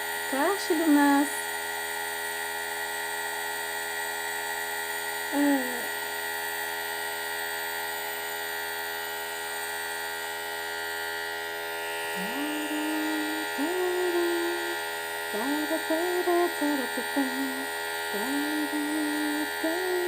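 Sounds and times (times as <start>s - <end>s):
nebulizer humming: 0.0s - 20.0s.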